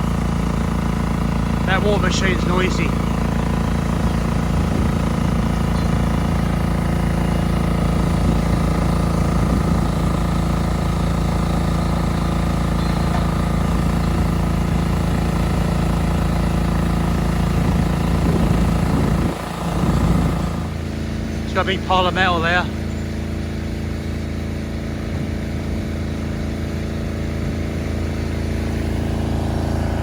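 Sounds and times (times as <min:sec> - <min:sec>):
engine droning steadily: 0:00.0 - 0:30.0.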